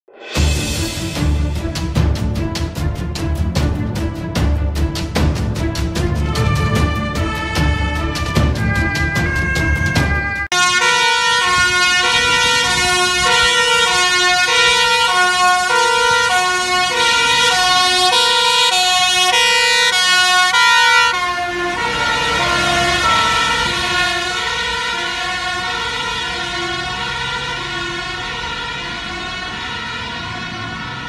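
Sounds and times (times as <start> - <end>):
theme music: 0.1 - 31.0
two-tone fire truck siren: 5.8 - 31.0.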